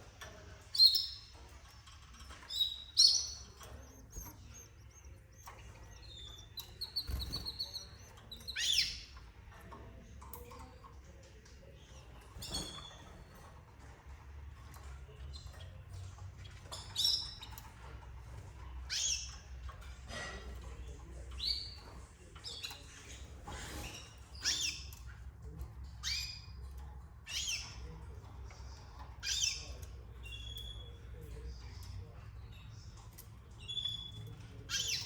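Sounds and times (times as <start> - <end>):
canaries chirping: 0.0 - 35.0.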